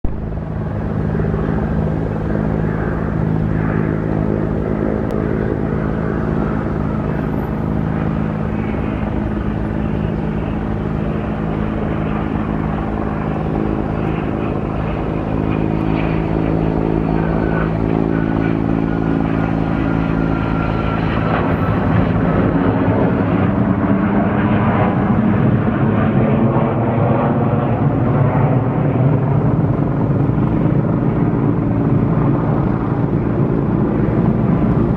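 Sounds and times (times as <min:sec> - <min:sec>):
jet engines droning and whining: 0:00.0 - 0:34.9.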